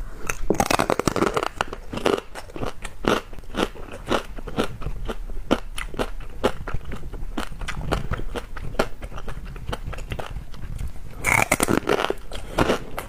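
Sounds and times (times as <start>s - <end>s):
crackling skin crunching: 0.2s - 13.0s
crunchy chewing: 0.2s - 13.0s.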